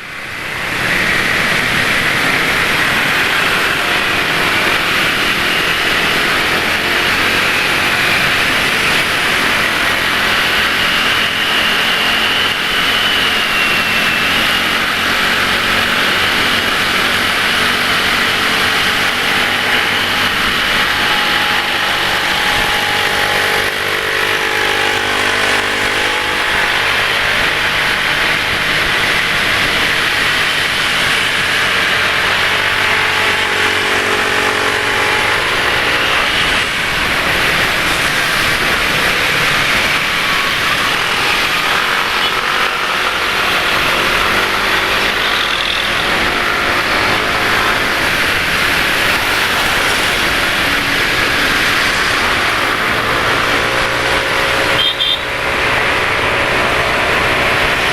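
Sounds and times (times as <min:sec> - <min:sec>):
motorcycle and car engines: 0:00.0 - 0:57.9
road and wind noise: 0:00.0 - 0:57.9.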